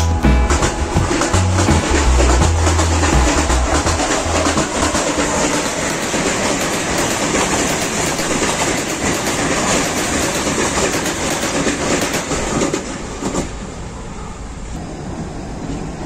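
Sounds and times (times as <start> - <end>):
train rolling noise: 0.0 - 16.0
wheels clicking over rail joints: 0.5 - 13.6.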